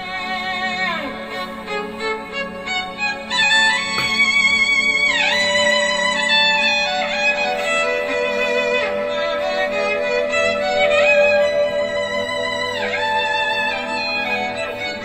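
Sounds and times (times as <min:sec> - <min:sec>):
low held drone tone: 0:00.0 - 0:15.0
violin-like melody with vibrato: 0:00.0 - 0:15.0.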